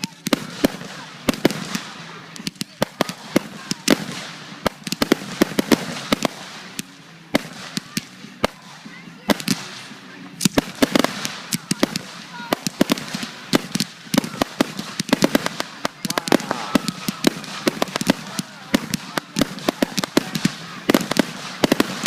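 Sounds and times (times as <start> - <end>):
fireworks bangs and crackles: 0.0 - 22.0
murmur of voices: 0.0 - 22.0.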